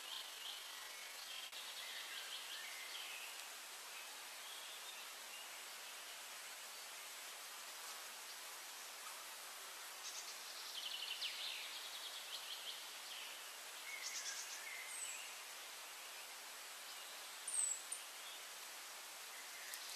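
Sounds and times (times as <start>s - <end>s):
songbirds singing: 0.0s - 19.9s
steady faint hiss: 0.0s - 19.9s.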